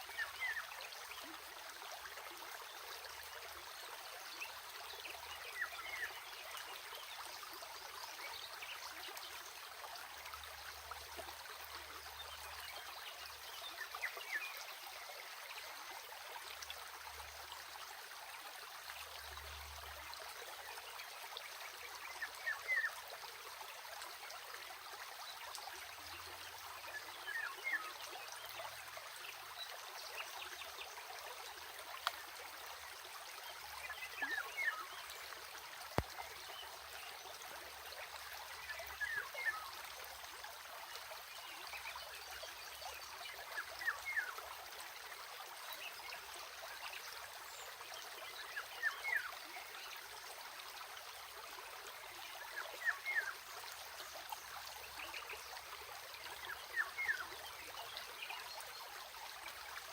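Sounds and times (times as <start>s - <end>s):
small stream running: 0.0s - 59.9s.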